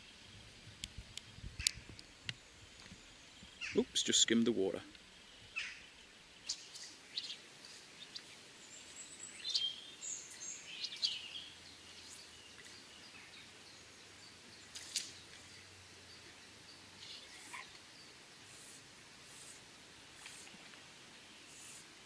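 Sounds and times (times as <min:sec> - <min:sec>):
faint steady background noise: 0:00.0 - 0:22.0
small birds chirping: 0:01.1 - 0:04.4, 0:05.0 - 0:22.0.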